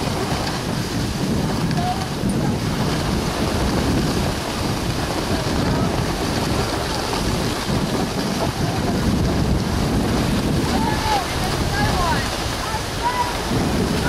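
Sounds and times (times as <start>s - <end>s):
skis sliding over snow: 0.0s - 14.0s
wind buffeting microphone: 0.0s - 14.0s.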